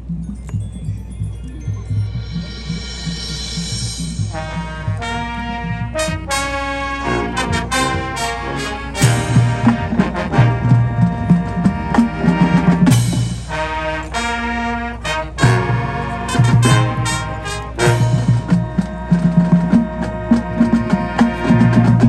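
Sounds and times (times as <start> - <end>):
drums: 0.0 - 22.0
marching band playing: 0.0 - 22.0
loud brass chords: 2.2 - 22.0.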